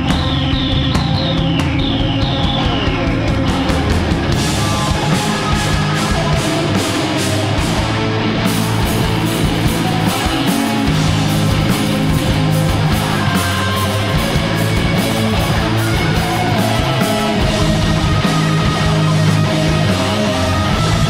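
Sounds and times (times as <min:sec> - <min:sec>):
bass guitar: 0:00.0 - 0:21.0
distorted electric guitars: 0:00.0 - 0:21.0
drums: 0:00.0 - 0:21.0.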